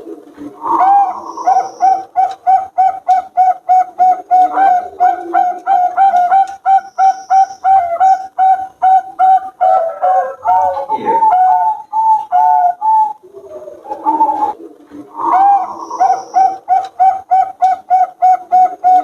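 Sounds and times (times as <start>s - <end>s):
doves cooing: 0.0s - 19.0s.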